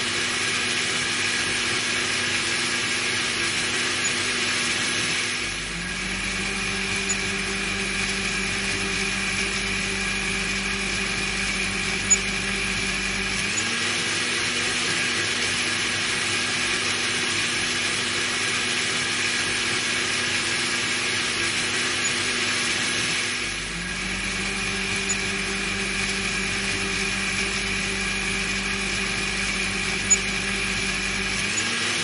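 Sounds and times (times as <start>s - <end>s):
blender motor running: 0.0s - 32.0s.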